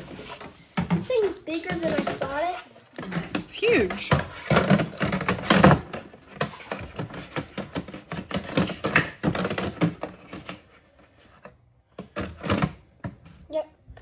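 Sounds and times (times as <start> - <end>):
hard plastic clattering: 0.0 - 13.4.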